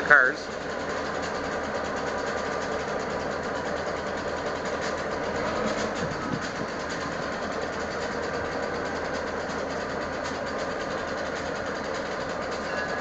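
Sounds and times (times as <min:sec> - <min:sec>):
diesel locomotives idling: 0:00.0 - 0:13.0.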